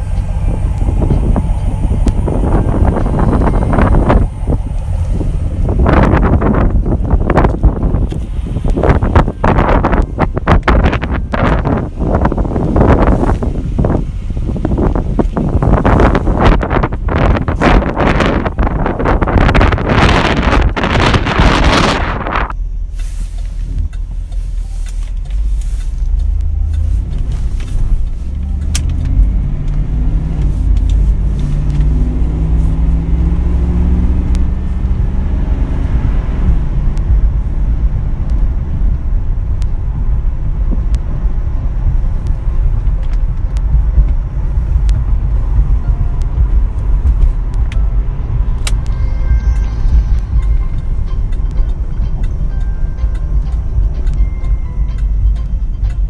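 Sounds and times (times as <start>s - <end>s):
car engine accelerating and cruising: 0.0s - 56.0s
road noise: 0.0s - 56.0s.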